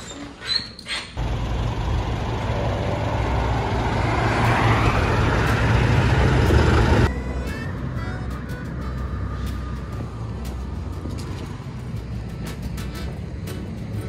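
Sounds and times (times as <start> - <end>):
vehicle engine and tyre noise: 0.0 - 14.0.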